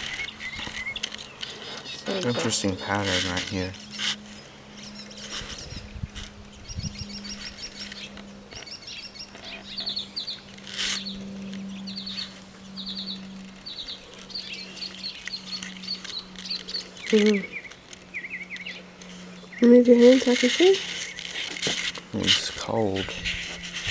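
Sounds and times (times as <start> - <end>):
songbird chipping: 0.0 - 23.8.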